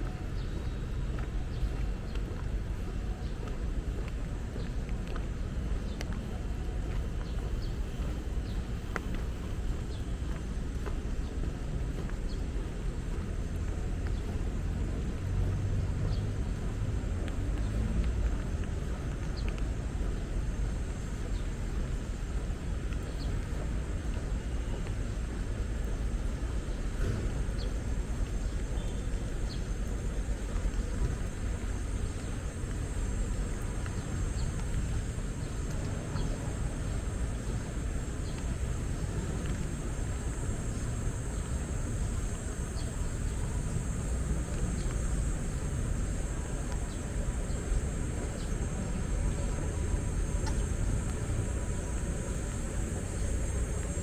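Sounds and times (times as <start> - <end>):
city traffic rumble: 0.0 - 54.0.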